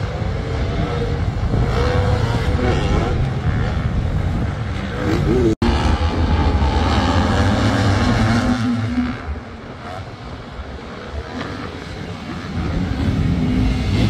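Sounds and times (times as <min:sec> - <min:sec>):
motorbikes revving: 0:00.0 - 0:14.0.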